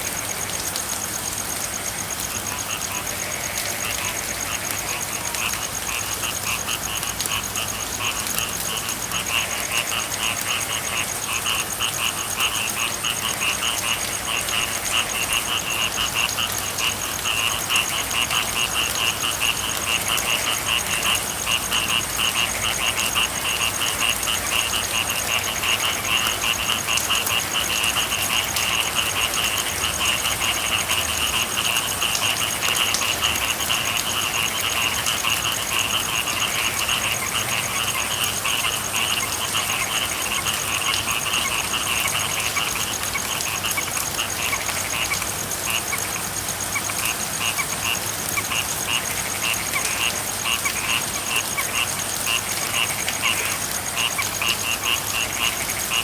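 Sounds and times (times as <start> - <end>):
frogs trilling: 0.0 - 56.0
rain hiss: 0.0 - 56.0.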